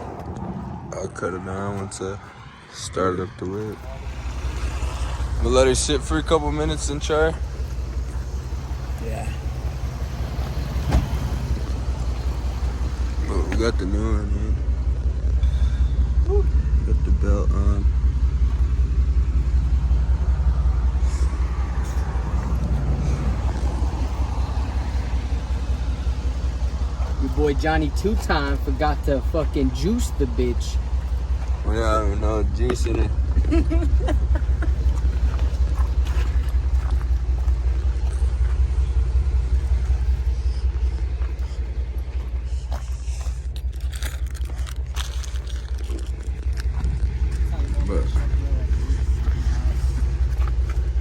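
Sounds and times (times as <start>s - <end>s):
vehicle engine idling: 0.0s - 51.0s.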